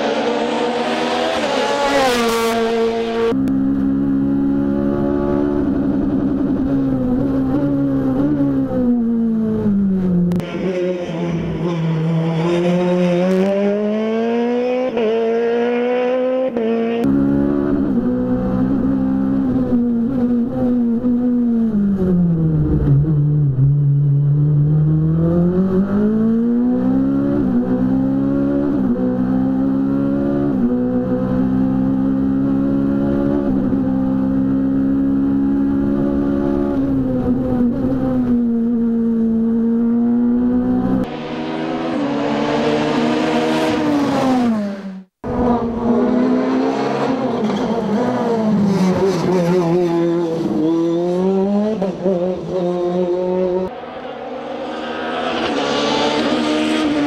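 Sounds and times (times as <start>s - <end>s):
race car engine revving: 0.0s - 23.6s, 24.3s - 57.0s.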